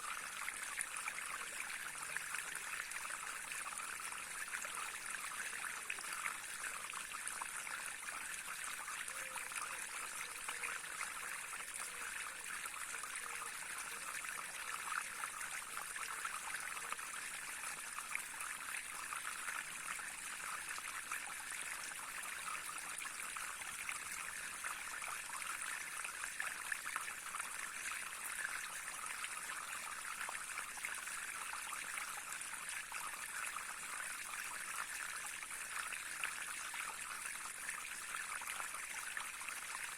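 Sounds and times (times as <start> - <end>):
small stream babbling: 0.0 - 39.9.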